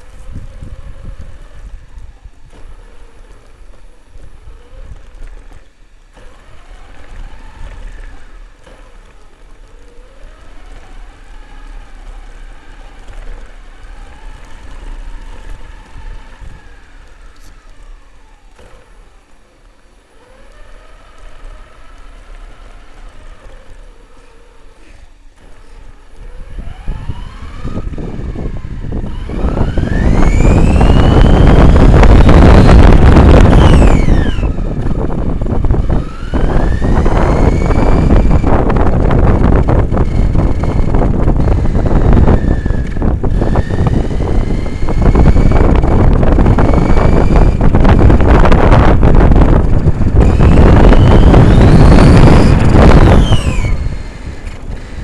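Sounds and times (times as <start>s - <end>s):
electric motor whining: 0.0s - 55.0s.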